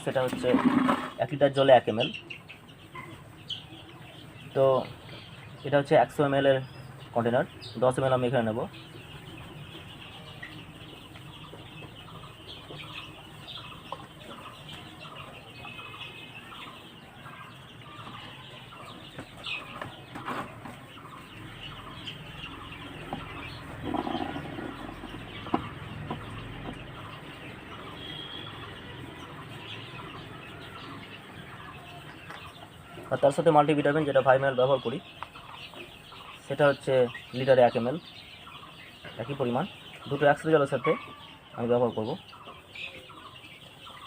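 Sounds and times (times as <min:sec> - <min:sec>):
chicks cheeping: 0:00.0 - 0:44.0.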